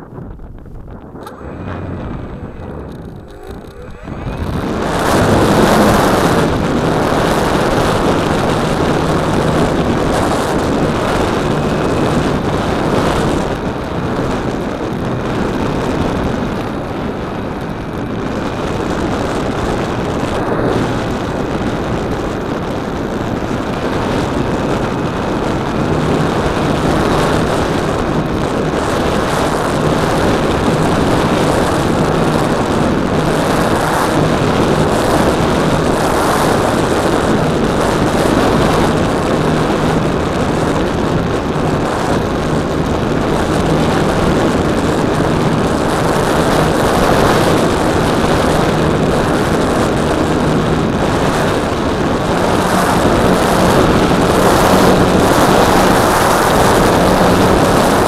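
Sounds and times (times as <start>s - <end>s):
propeller hum: 0.0s - 58.0s
wind rush over microphone: 0.0s - 58.0s.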